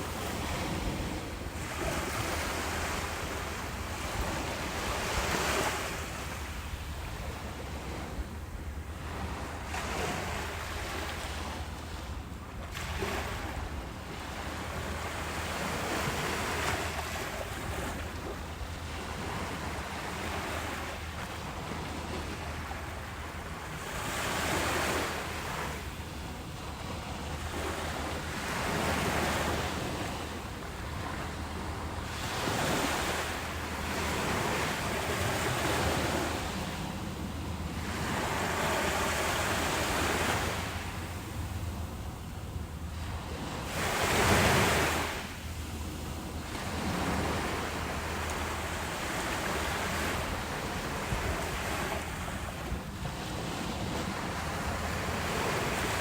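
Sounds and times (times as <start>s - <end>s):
ocean waves breaking on beach: 0.0s - 56.0s
wind rumbling on microphone: 0.0s - 56.0s.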